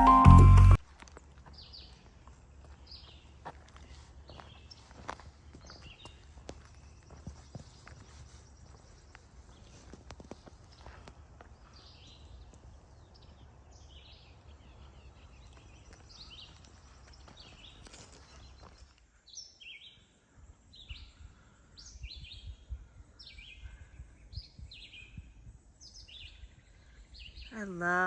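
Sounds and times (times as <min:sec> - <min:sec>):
songbirds chirping: 0:00.8 - 0:28.0.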